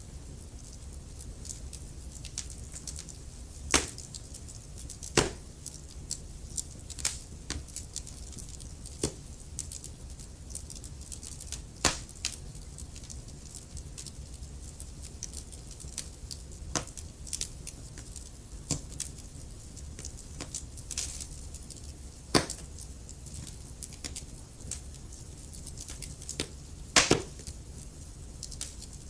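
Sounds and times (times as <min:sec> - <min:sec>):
low rumble of flames: 0:00.0 - 0:29.0
wood fire crackling: 0:00.0 - 0:29.0
pops and snaps of burning logs: 0:00.5 - 0:29.0.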